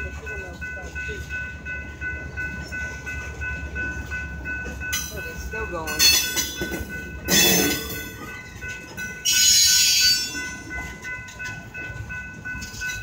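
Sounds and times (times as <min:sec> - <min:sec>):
train cars rumbling past: 0:00.0 - 0:13.0.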